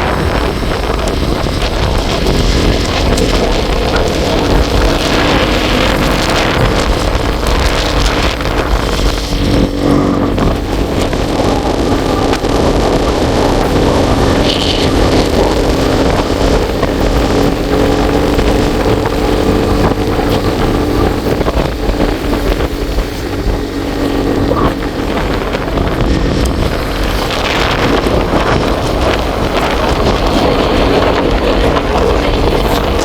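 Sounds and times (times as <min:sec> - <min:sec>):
vehicle engine running: 0:00.0 - 0:33.0
wind noise on microphone: 0:00.0 - 0:33.0.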